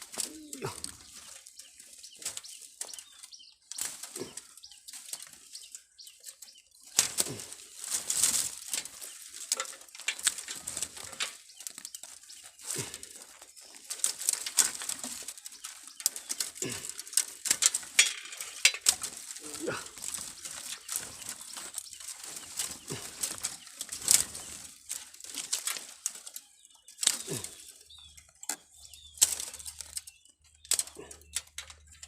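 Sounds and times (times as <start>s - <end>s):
rustling and crackling handling noise: 0.0s - 32.0s.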